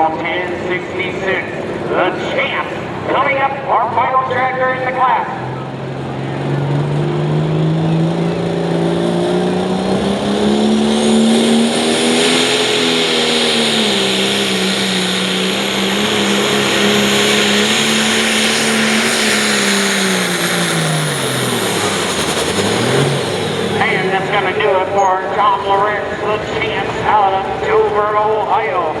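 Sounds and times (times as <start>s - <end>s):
tractor diesel engine at full throttle: 0.0s - 29.0s.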